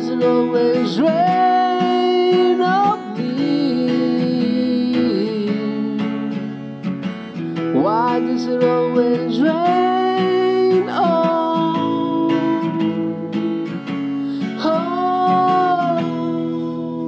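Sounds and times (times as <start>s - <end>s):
person singing wordless notes: 0.0s - 6.4s, 7.7s - 17.0s
acoustic guitar strumming: 0.0s - 17.0s.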